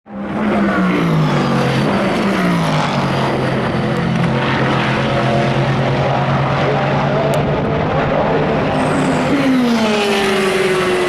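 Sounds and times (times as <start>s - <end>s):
racing car engines passing: 0.1s - 11.0s.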